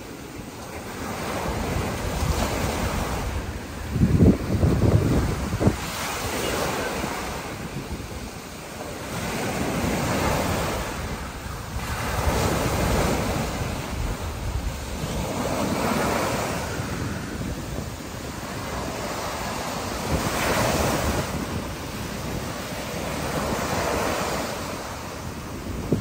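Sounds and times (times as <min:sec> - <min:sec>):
ocean waves breaking on beach: 0:00.0 - 0:26.0
wind buffeting microphone: 0:00.0 - 0:26.0.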